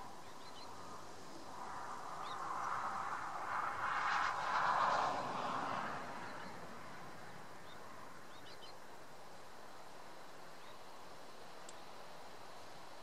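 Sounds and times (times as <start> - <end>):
wind rushing through grass: 0.0 - 13.0.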